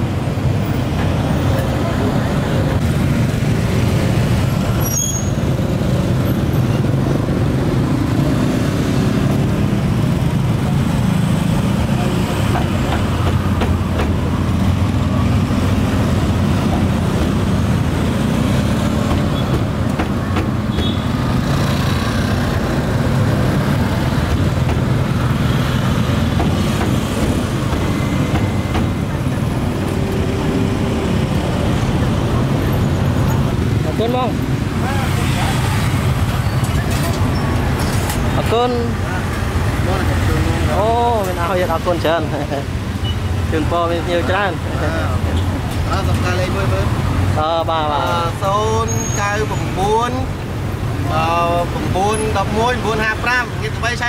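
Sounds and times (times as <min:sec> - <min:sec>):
traffic engine rumble: 0:00.0 - 0:54.0.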